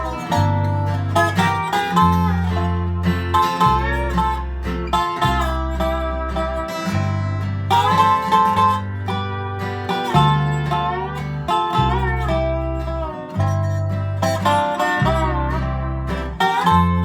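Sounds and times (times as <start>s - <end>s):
plucked bass line: 0.0s - 17.0s
resonator guitar sliding melody: 0.0s - 17.0s.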